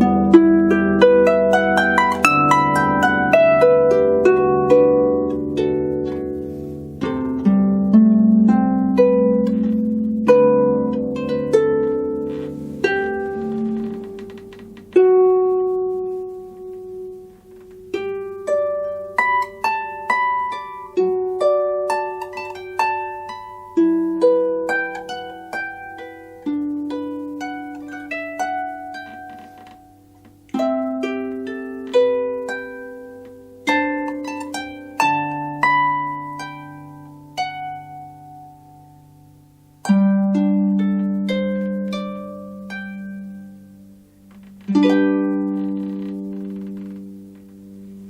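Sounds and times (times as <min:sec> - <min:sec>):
solo harp playing: 0:00.0 - 0:48.0.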